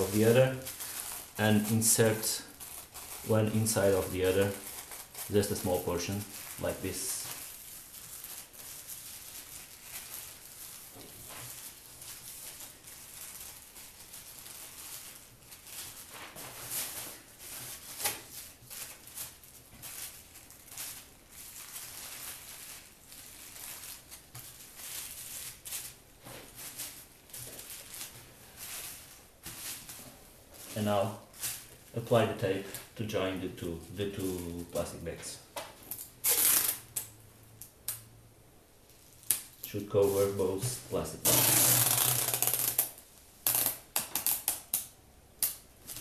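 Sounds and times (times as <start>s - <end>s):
plastic bags rustling: 0.0s - 37.2s, 38.8s - 44.5s.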